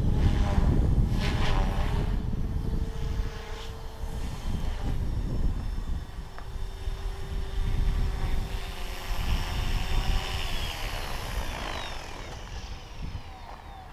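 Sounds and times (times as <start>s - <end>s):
model helicopter rotor whine: 0.0s - 13.9s
wind on microphone: 0.0s - 13.9s.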